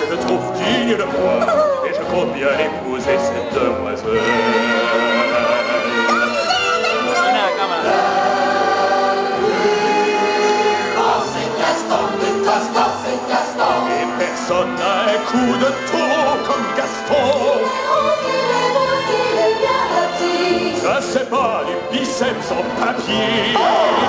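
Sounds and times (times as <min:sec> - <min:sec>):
stage show music with singing: 0:00.0 - 0:24.0
choir backing vocals: 0:04.1 - 0:24.0.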